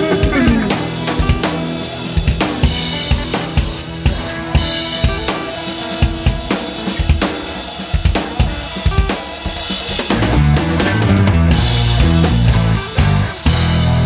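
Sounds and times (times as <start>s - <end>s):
band with heavy bass: 0.0s - 14.0s
drum kit beat: 0.0s - 14.0s.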